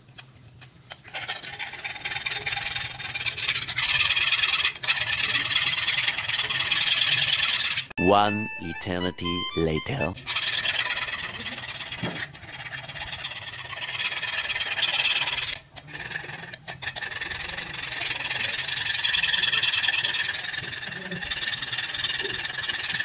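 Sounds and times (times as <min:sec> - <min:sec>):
file rasping on steel blade: 0:01.0 - 0:07.9, 0:10.2 - 0:23.0.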